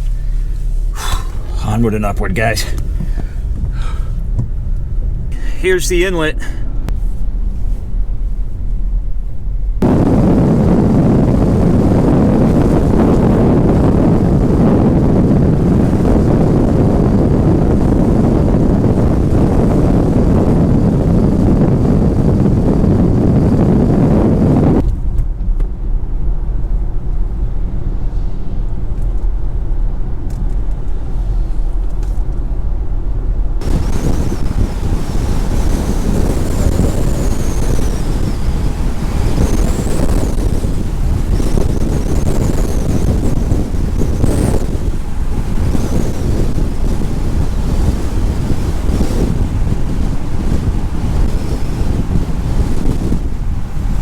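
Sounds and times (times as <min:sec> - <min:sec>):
car driving hum: 0:00.0 - 0:54.0
storm wind buffeting microphone: 0:00.0 - 0:54.0.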